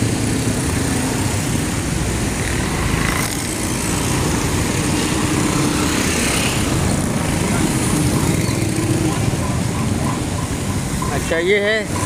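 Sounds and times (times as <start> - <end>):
small engines of rickshaws and motorcycles: 0.0 - 12.0.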